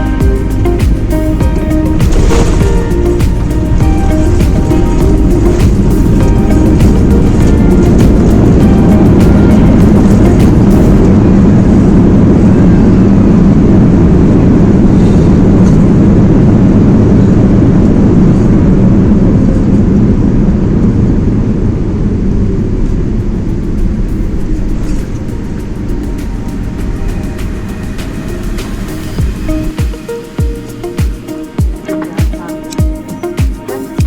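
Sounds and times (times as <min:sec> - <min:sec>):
airliner cabin rumble: 0:00.0 - 0:33.3.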